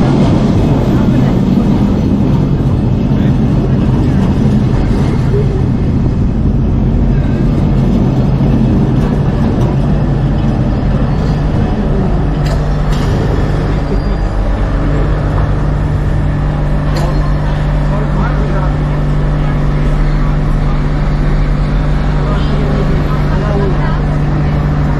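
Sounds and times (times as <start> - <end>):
electric tram humming and rumbling: 0.0 - 24.9.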